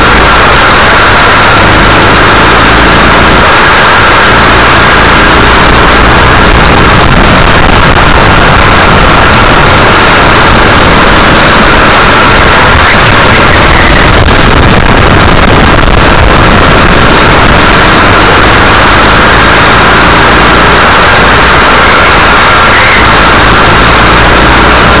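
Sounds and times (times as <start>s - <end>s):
racing kart engine running hard: 0.0s - 25.0s.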